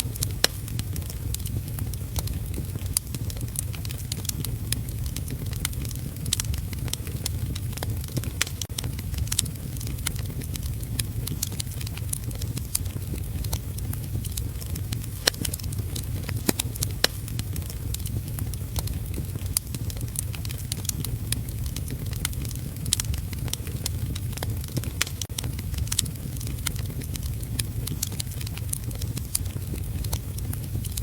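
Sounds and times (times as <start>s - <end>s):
low rumble of fire: 0.0s - 31.0s
wood fire crackling and popping: 0.0s - 31.0s.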